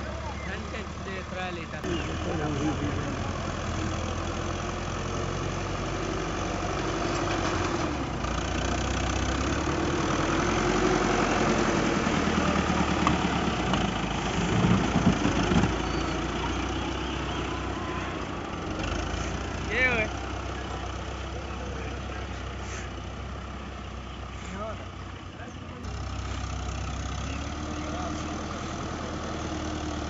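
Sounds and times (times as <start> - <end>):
tractor diesel engine droning: 0.0 - 30.0.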